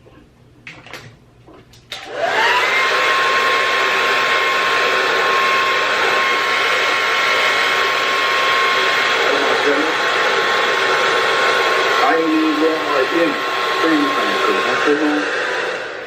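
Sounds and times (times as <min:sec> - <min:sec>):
hair dryer whirring: 0:01.9 - 0:16.0.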